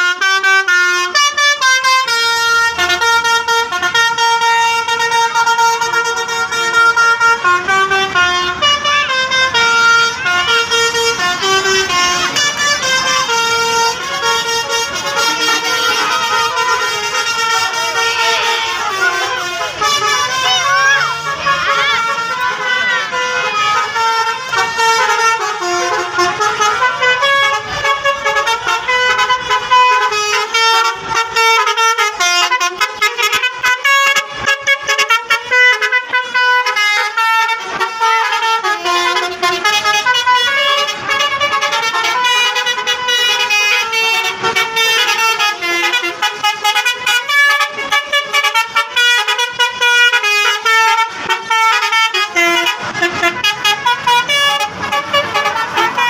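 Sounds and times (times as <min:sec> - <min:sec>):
multi-tone air horn melody: 0:00.0 - 0:56.0.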